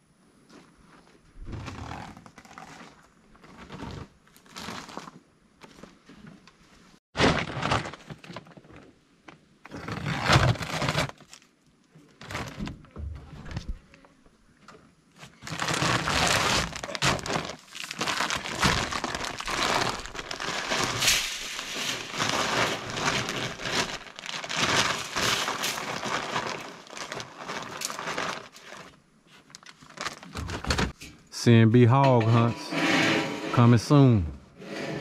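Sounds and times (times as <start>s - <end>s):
rustling and crinkling: 0.5s - 31.0s.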